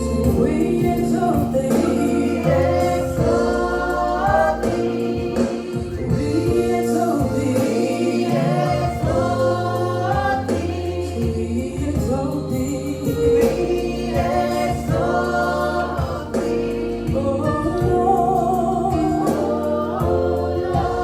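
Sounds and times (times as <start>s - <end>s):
gospel choir singing: 0.0s - 21.0s.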